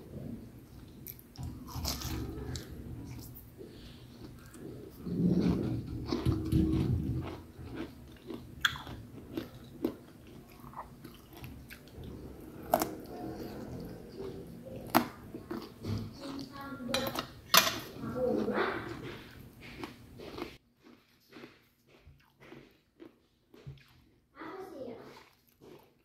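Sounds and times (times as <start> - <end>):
chewing and crunching broccoli: 0.6 - 26.0.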